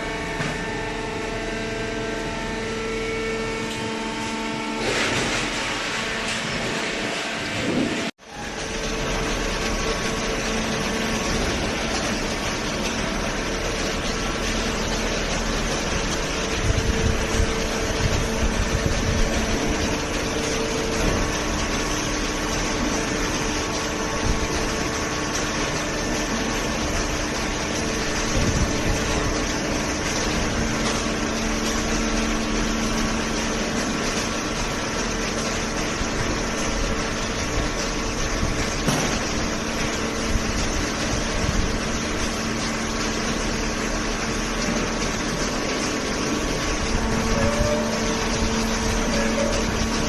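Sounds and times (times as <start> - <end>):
hydraulic motor and pump humming: 0.0 - 50.0.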